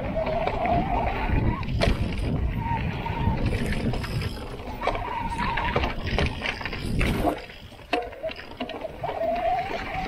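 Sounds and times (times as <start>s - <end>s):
bike rattling over rocks: 0.0s - 10.0s
wind on microphone: 0.0s - 10.0s.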